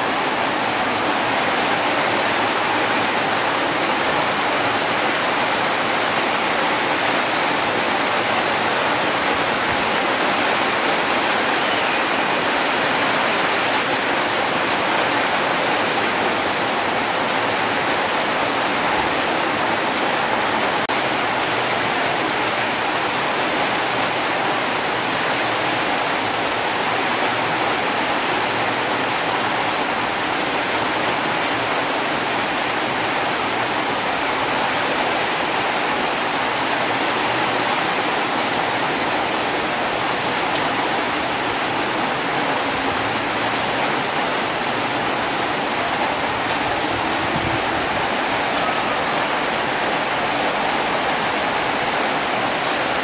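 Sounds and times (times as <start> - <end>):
rain pouring: 0.0 - 53.0.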